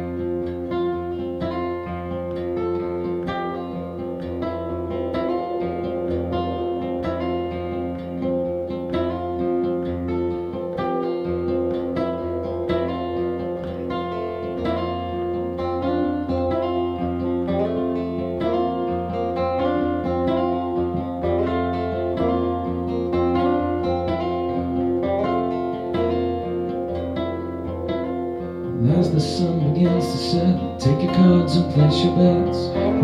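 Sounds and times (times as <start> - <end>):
picked acoustic guitar: 0.0 - 33.0.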